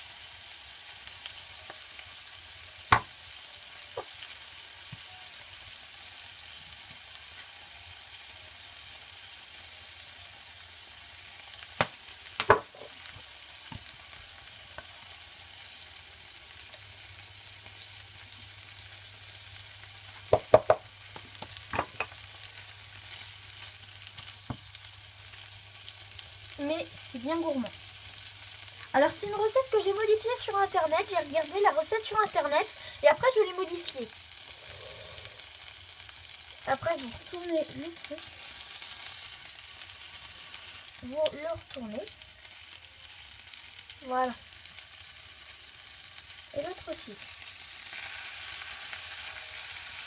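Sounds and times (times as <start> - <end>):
food sizzling in a frying pan: 0.0 - 50.0.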